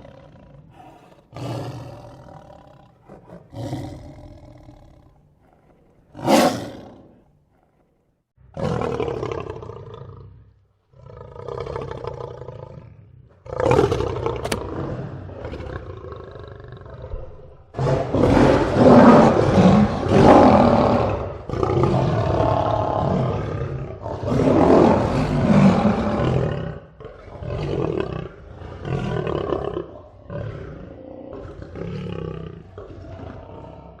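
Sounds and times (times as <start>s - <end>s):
lion grunts: 0.0s - 34.0s
lion roaring: 0.0s - 34.0s.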